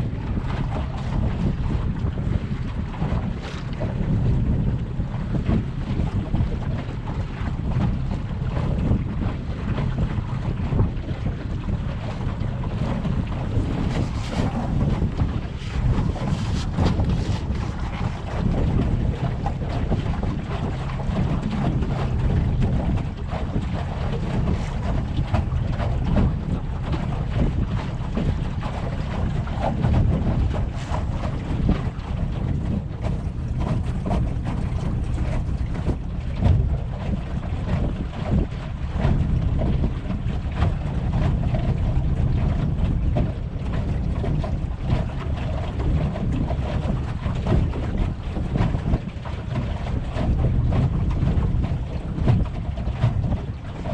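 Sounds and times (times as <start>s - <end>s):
motorboat engine rumble: 0.0s - 53.9s
water noise: 0.0s - 53.9s
wind buffeting microphone: 0.0s - 53.9s.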